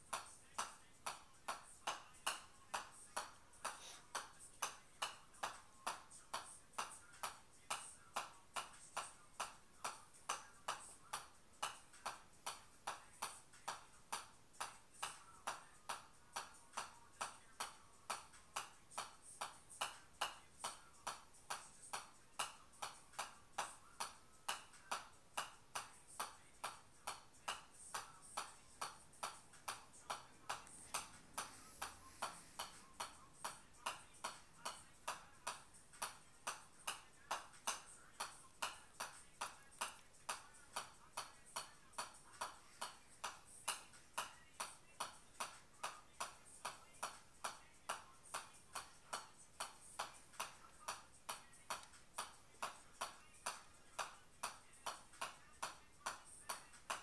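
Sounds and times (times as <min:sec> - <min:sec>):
golf ball bouncing on club face: 0:00.1 - 0:55.3.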